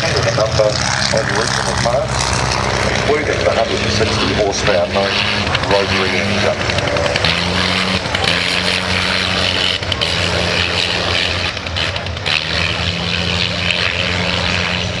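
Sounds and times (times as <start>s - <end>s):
propeller aircraft engine droning: 0.0s - 15.0s.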